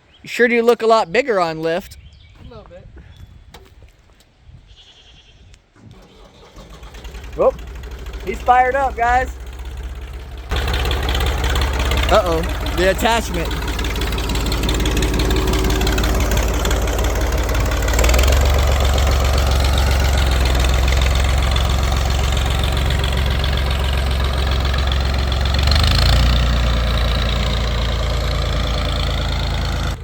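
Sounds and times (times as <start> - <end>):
tractor engine idling: 6.0 - 30.0.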